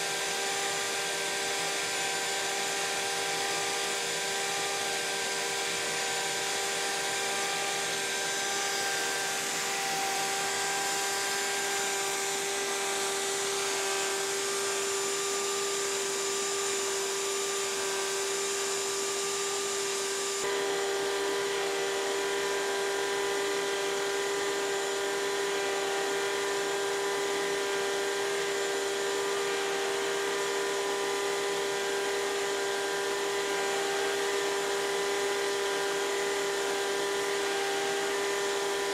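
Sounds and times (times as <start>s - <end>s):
dust extractor running: 0.0s - 38.9s
wood router whining: 0.0s - 38.9s.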